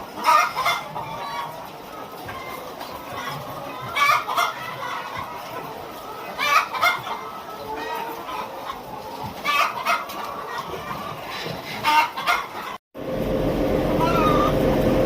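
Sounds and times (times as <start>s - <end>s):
hens clucking: 0.0s - 12.8s, 13.9s - 15.0s
loud hen calls: 0.0s - 12.8s, 13.9s - 14.8s.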